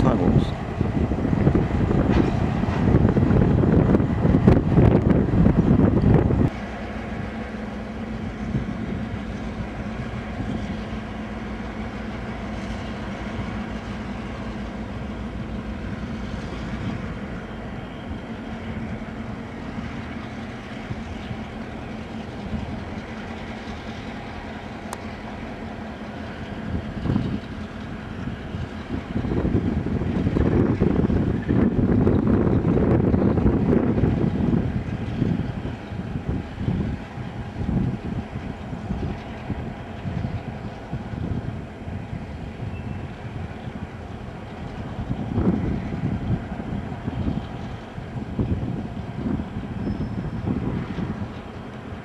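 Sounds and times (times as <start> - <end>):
wind hitting microphone: 0.0 - 7.3, 8.2 - 52.0
diesel locomotive engine drone: 0.0 - 52.0.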